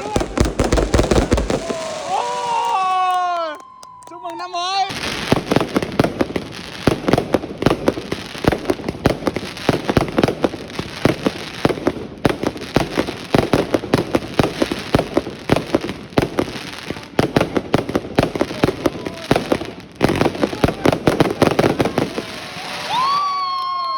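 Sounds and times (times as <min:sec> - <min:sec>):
fireworks bangs and crackles: 0:00.0 - 0:23.9.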